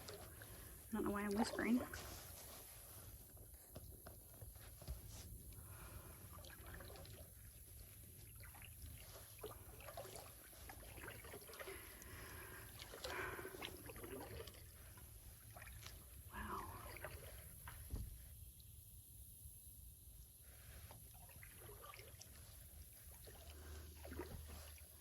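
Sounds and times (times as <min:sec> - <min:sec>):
paddle strokes in water: 0:00.0 - 0:18.4, 0:20.4 - 0:25.0.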